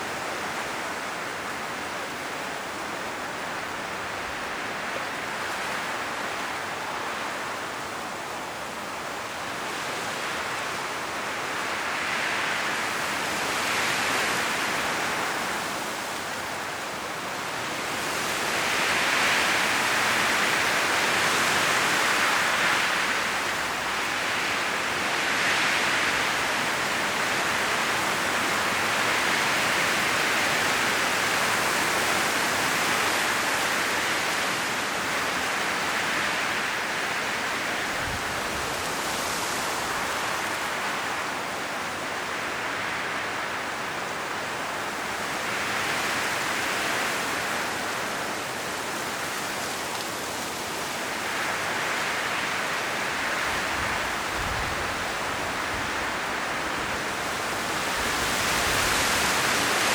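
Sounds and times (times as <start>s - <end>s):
strong wind through trees: 0.0s - 59.9s.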